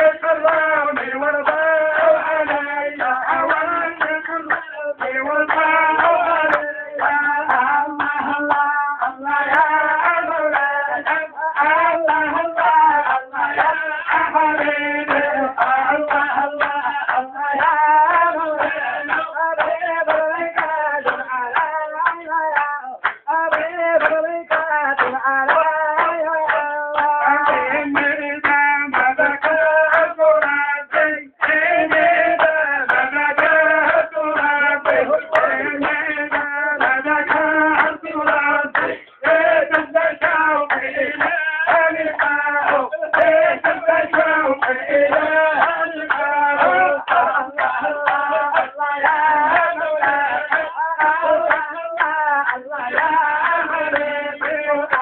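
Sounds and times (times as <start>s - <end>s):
group of people singing: 0.0s - 55.0s
rhythmic hand clapping: 0.0s - 55.0s.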